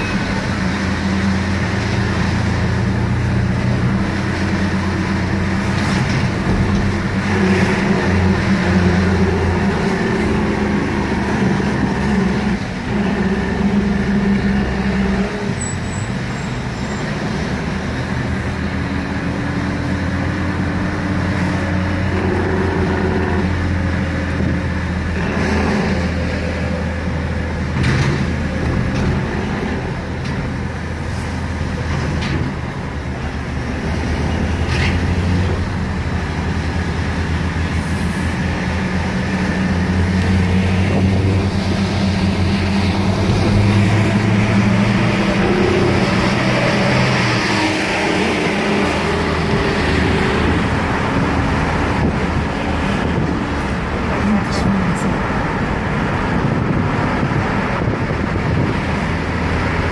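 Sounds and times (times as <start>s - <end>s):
car engine drone with road noise: 0.0s - 59.9s.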